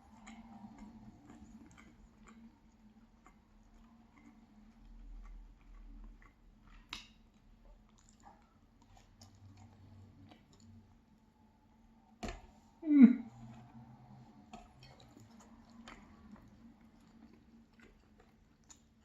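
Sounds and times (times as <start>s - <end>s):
faint chewing: 0.0s - 11.4s, 13.2s - 19.0s.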